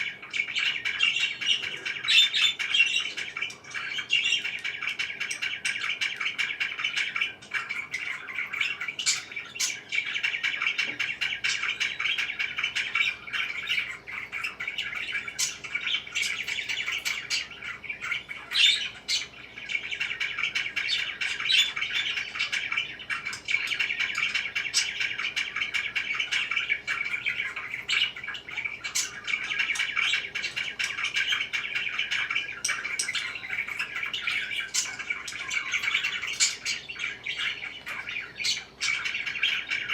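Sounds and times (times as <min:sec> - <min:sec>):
parakeet squawks: 0:00.0 - 0:39.9
parakeets chattering and chirping: 0:00.0 - 0:39.9.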